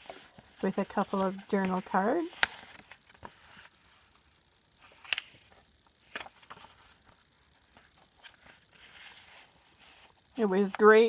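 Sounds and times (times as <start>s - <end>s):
paper rustling: 0.0s - 4.2s, 4.8s - 11.0s.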